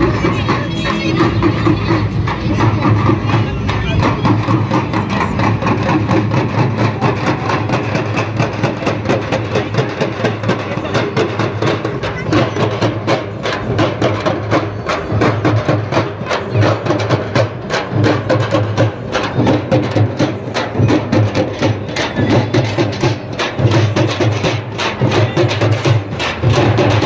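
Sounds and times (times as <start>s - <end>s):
fast dense drumming: 0.0s - 27.0s.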